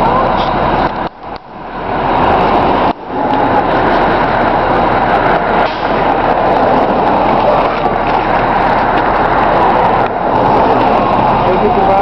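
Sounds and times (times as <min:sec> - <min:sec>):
diesel engine running: 0:00.0 - 0:12.0
road noise: 0:00.0 - 0:12.0.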